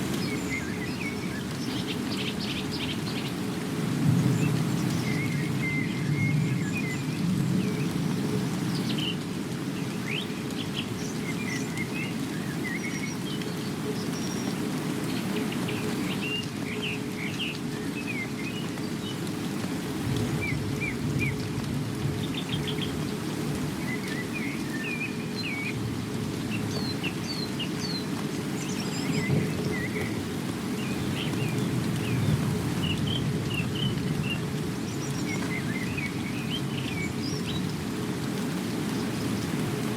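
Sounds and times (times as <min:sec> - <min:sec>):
small birds chirping: 0:00.0 - 0:19.5, 0:20.1 - 0:39.9
steady rain: 0:00.0 - 0:39.9.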